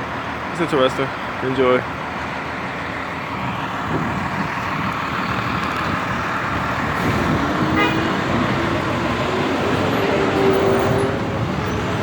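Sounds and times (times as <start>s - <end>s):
heavy engines: 0.0s - 12.0s
road noise from passing vehicles: 0.0s - 12.0s.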